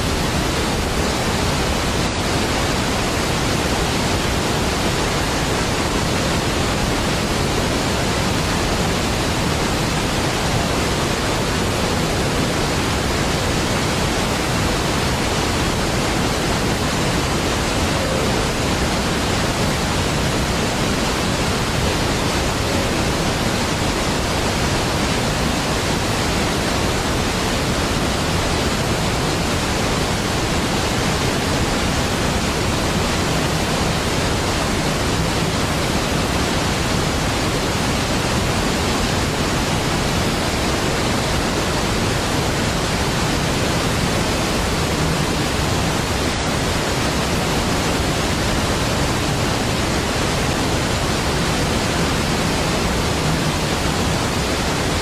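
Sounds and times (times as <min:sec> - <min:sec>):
large waterfall rushing: 0:00.0 - 0:55.0.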